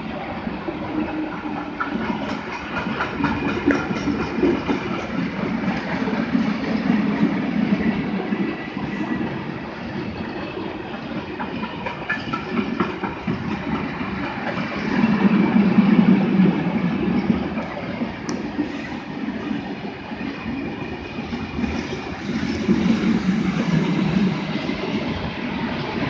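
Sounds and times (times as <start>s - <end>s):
train running on rails: 0.0s - 26.0s.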